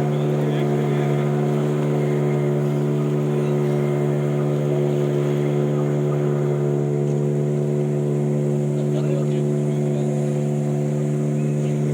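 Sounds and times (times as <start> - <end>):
motorboat engine humming: 0.0 - 11.9.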